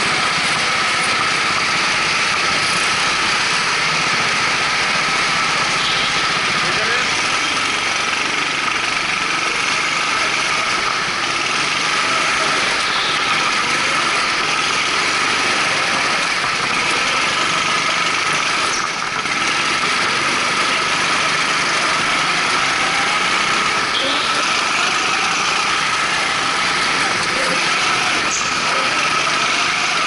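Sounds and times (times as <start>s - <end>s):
go-kart engines running: 0.0s - 30.0s.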